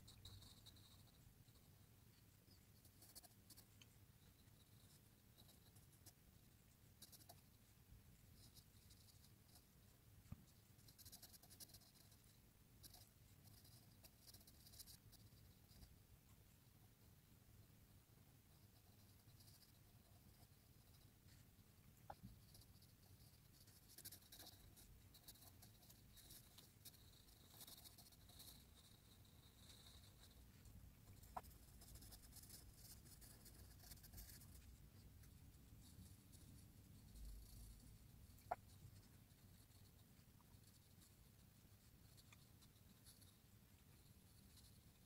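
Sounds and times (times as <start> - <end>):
pencil scratching on paper: 0.0 - 7.7, 8.3 - 16.0, 18.5 - 45.0.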